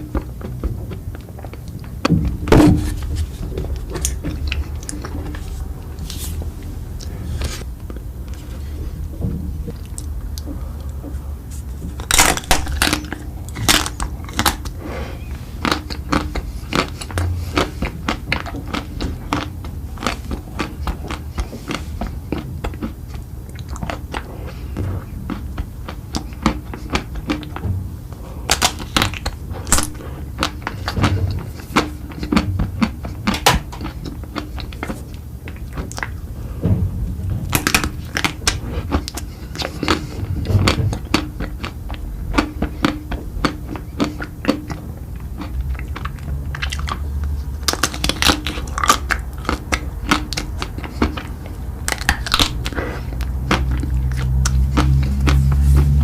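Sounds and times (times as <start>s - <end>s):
crunchy chewing: 0.0s - 36.6s, 37.4s - 56.0s.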